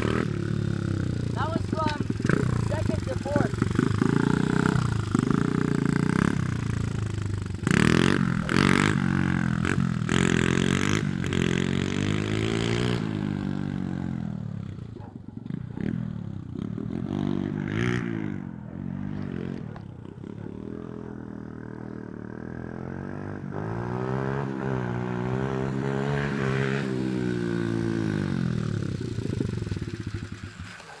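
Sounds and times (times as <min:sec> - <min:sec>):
pit bike engine revving: 0:00.0 - 0:31.0.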